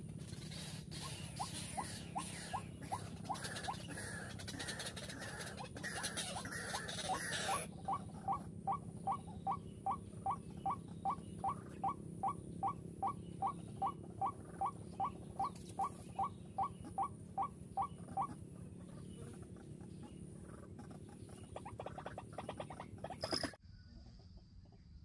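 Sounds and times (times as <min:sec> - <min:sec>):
waterhen squeaky calls: 0:00.4 - 0:18.4, 0:20.6 - 0:23.6.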